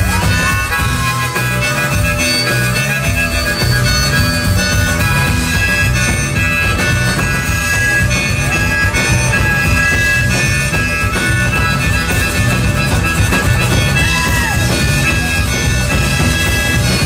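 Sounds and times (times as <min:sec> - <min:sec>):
bass and drum groove: 0:00.0 - 0:17.0
harmonica solo: 0:00.0 - 0:17.0.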